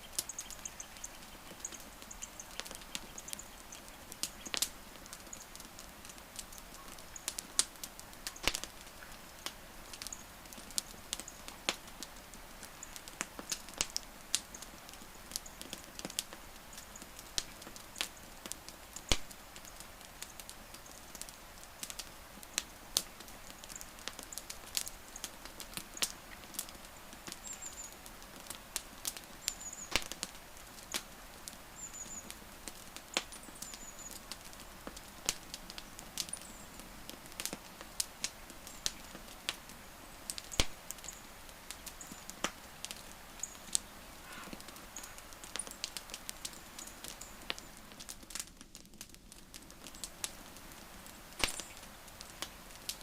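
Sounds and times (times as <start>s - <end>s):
campfire crackling and popping: 0.0s - 53.0s
soft steady hiss: 0.0s - 53.0s.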